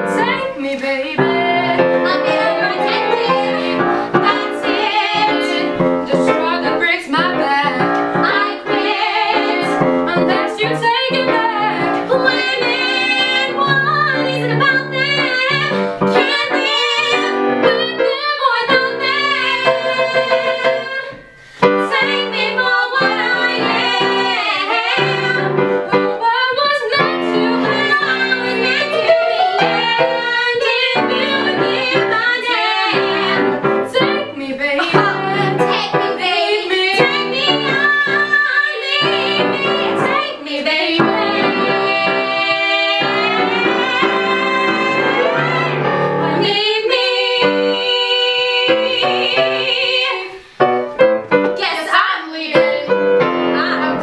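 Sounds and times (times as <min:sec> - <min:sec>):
two women singing a duet: 0:00.0 - 0:50.5, 0:51.4 - 0:54.0
piano accompaniment: 0:00.0 - 0:54.0.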